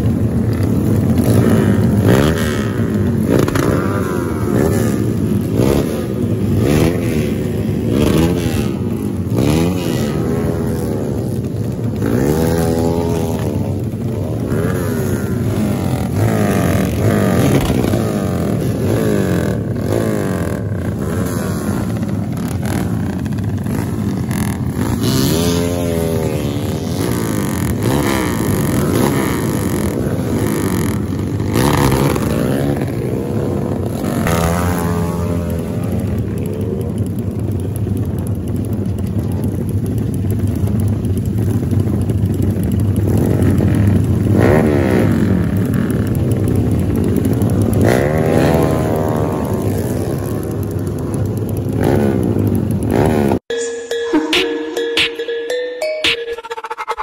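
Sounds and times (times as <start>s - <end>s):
motorcycle engines idling and revving: 0.0s - 57.0s.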